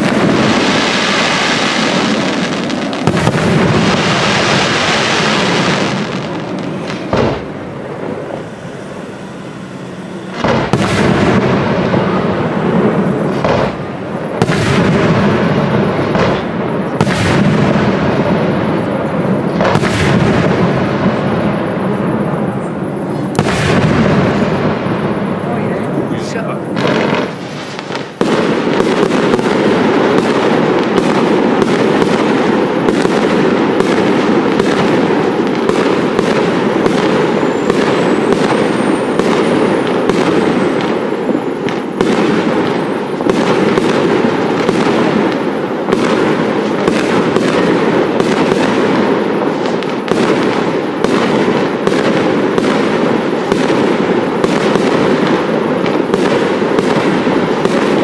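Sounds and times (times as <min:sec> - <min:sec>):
faint firework whistle: 0:00.0 - 0:58.0
fireworks crackling and popping: 0:00.0 - 0:58.0.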